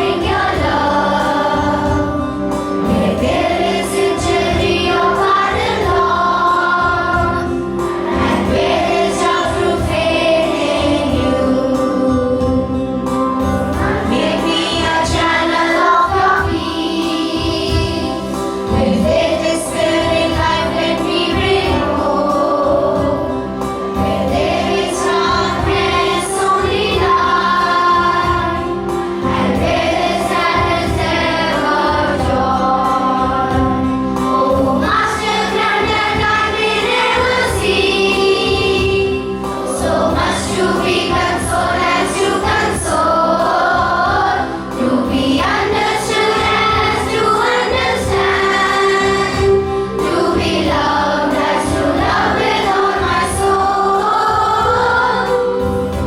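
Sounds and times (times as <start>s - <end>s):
group singing a prayer song: 0.0s - 56.0s
held accompaniment notes: 0.0s - 56.0s.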